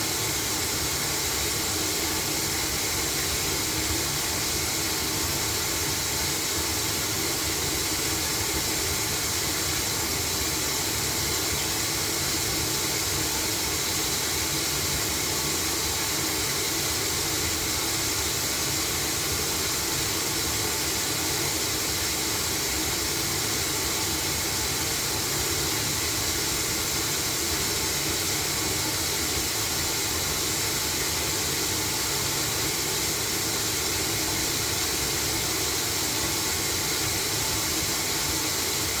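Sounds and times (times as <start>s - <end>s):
washing machine humming: 0.0s - 39.0s.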